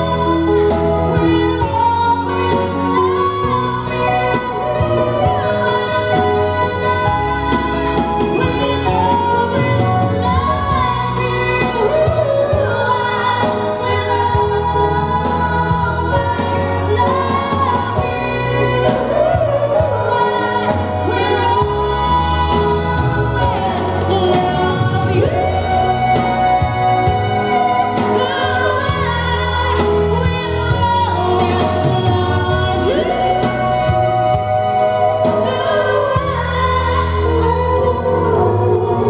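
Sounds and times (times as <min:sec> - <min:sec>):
synthesizer accompaniment: 0:00.0 - 0:39.0
woman singing: 0:00.0 - 0:39.0.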